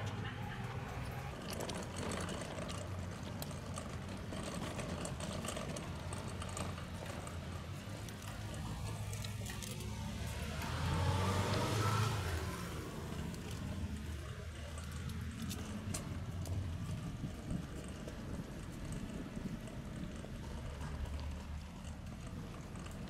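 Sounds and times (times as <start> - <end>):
cart wheels rumbling and rattling: 0.0 - 23.0.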